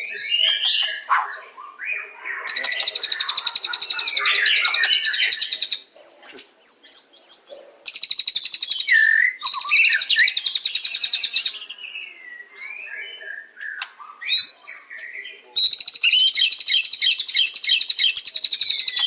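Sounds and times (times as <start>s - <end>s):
songbird trills and whistles: 0.0s - 19.0s.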